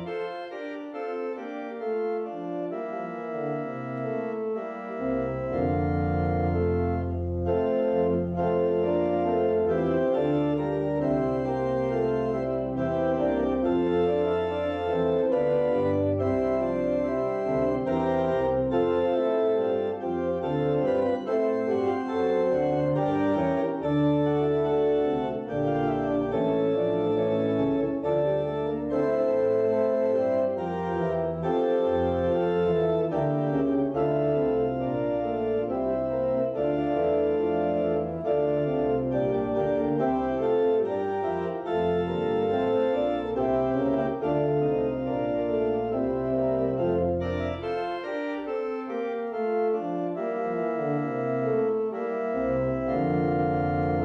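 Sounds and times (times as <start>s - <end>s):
organ playing sustained chords: 0.0s - 54.0s.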